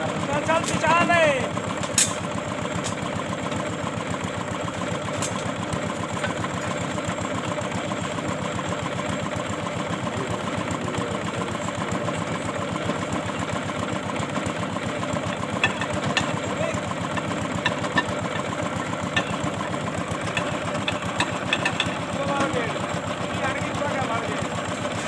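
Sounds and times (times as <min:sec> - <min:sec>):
boring machine engine running: 0:00.0 - 0:25.0.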